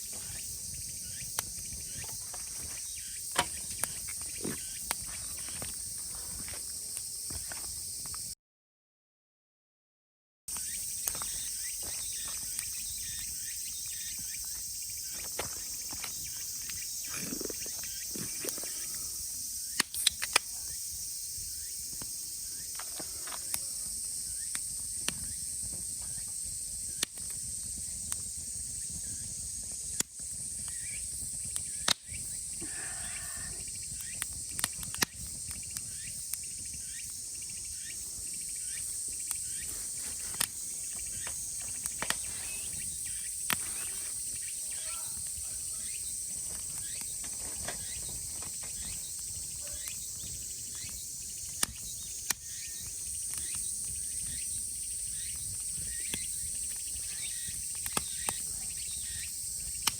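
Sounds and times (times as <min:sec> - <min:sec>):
cicadas chorus: 0:00.0 - 0:08.4, 0:10.5 - 0:59.9.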